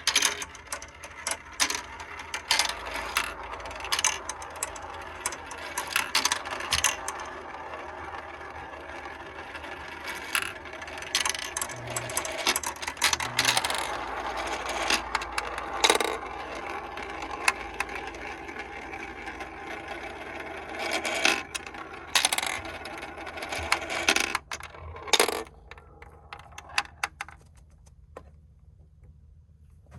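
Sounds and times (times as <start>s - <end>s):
marbles knocking as they drop: 0.0s - 27.2s
marbles rolling on plastic track: 0.0s - 27.4s.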